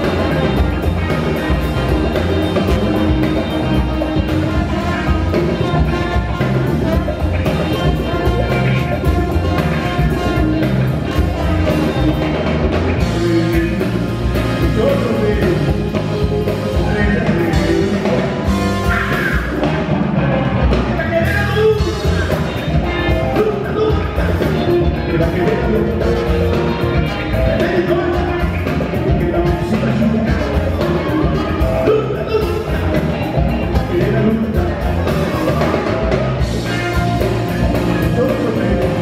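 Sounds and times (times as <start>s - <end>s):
man singing lead: 0.0s - 19.9s, 20.6s - 39.0s
bass: 0.0s - 39.0s
drums: 0.0s - 39.0s
electric guitar: 0.0s - 39.0s
horn section: 0.0s - 39.0s.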